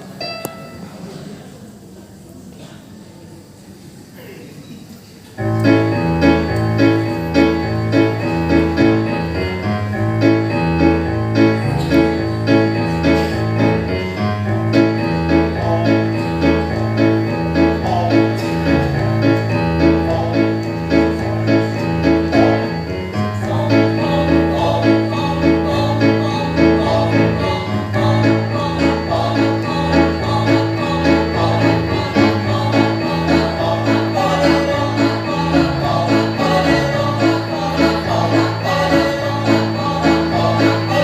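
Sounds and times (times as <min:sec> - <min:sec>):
choir singing: 0:05.4 - 0:41.0
electronic keyboard: 0:05.4 - 0:41.0.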